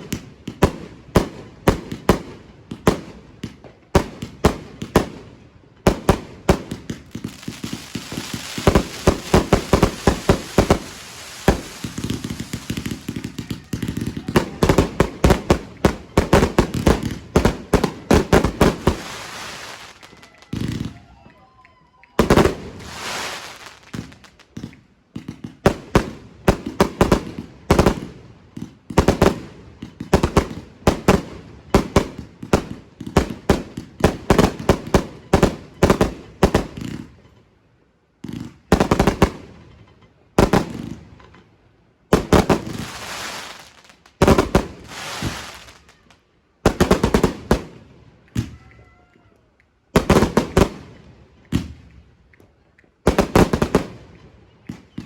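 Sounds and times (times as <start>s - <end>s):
fireworks banging: 0.0s - 21.2s, 22.2s - 37.5s, 38.2s - 41.5s, 42.1s - 48.7s, 53.0s - 55.0s
fireworks crackling: 0.0s - 37.4s, 38.2s - 48.7s, 49.9s - 55.0s.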